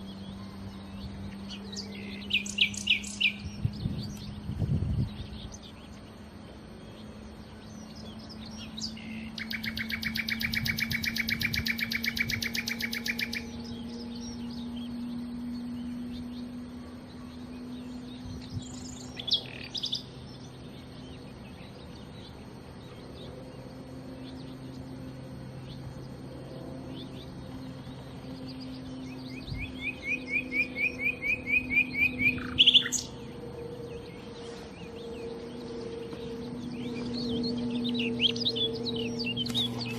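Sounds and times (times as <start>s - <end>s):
faint steady low hum: 0.0s - 39.9s
nightingale singing: 0.0s - 39.9s.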